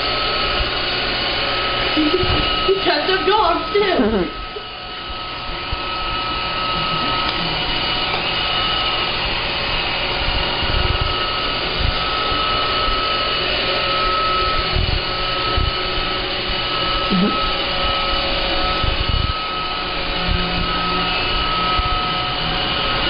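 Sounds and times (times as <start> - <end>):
robot vacuum whine: 0.0 - 23.0.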